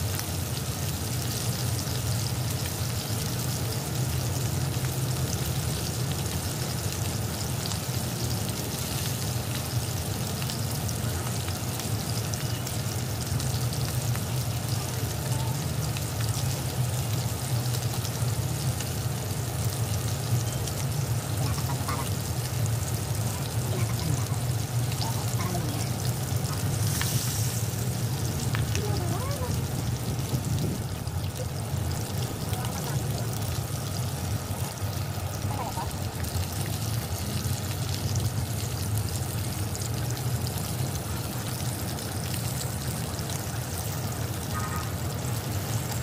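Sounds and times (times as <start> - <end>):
meat frying in oil: 0.0 - 46.0.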